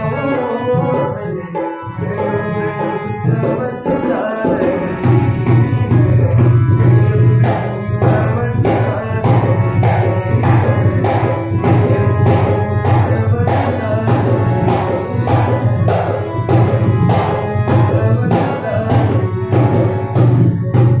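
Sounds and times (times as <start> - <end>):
man singing: 0.0 - 20.3
harmonium: 0.0 - 21.0
hand drum beat: 0.7 - 21.0.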